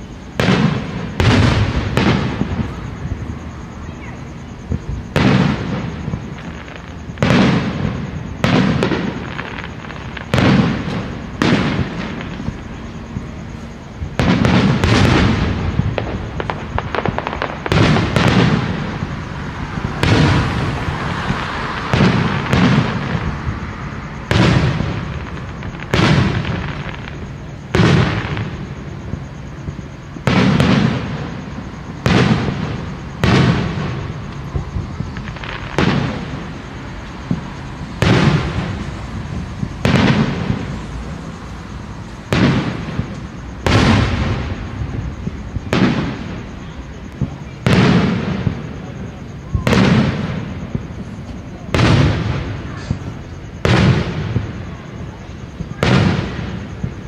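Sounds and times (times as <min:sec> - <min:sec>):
aerial fireworks booming: 0:00.0 - 0:57.0.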